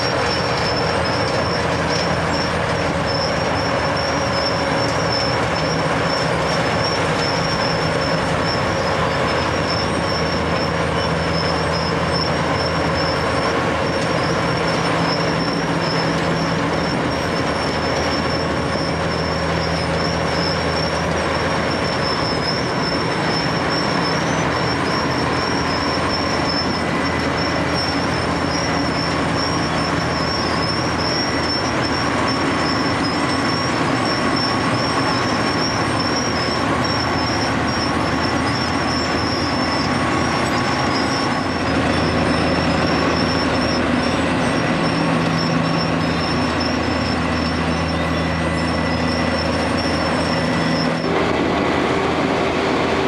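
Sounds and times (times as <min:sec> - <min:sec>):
machine engine: 0:00.0 - 0:53.0
milling machine grinding asphalt: 0:00.0 - 0:53.0.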